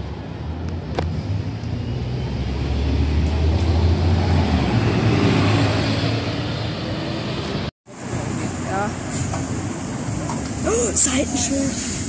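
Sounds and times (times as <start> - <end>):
bus engine driving past: 0.0 - 12.0.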